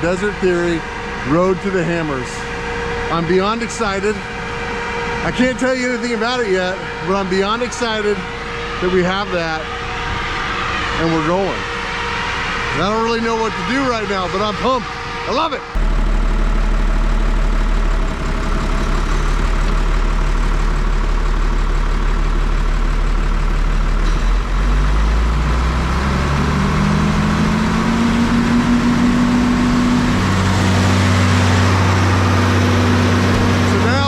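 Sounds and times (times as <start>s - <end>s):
diesel truck engine running: 0.0s - 10.6s, 14.0s - 34.0s.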